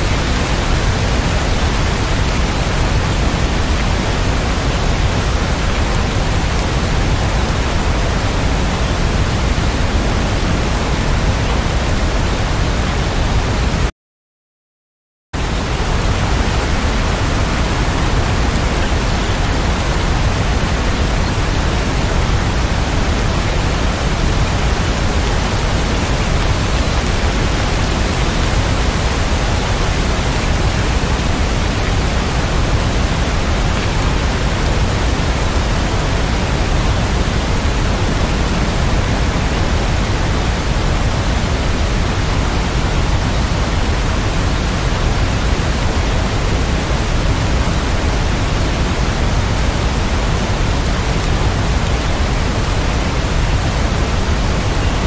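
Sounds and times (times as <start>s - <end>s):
heavy rain hissing: 0.0s - 13.9s, 15.4s - 55.0s.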